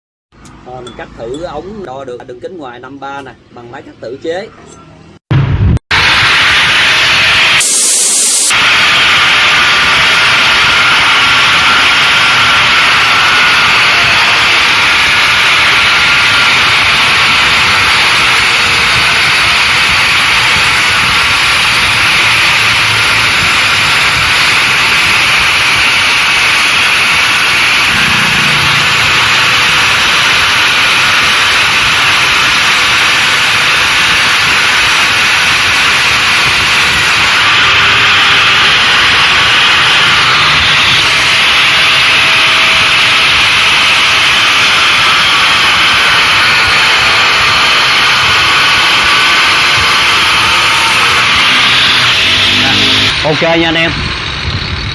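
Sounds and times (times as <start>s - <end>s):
cut-off saw cutting pipe: 5.9s - 54.9s.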